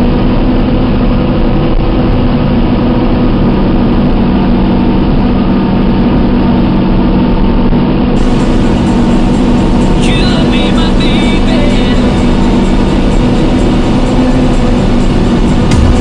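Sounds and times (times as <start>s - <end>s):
forage harvester machine drone: 0.0s - 16.0s.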